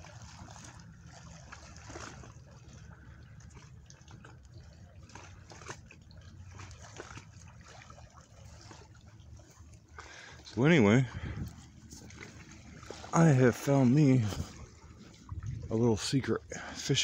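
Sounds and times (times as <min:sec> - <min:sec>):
low steady rumble: 0:00.0 - 0:17.0
small waves lapping: 0:00.0 - 0:17.0.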